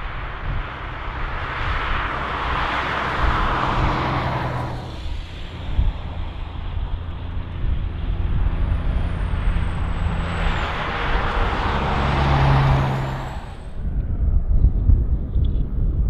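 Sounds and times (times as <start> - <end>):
road vehicle passing: 0.0 - 15.2
freight train rumble: 0.0 - 16.0
highway traffic: 0.0 - 16.0.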